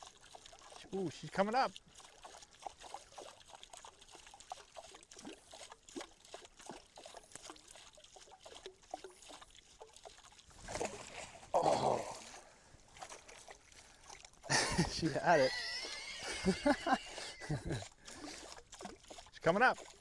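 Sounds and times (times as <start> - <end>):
fish splashing: 0.0 - 20.0
water plinks and gurgles: 0.0 - 20.0.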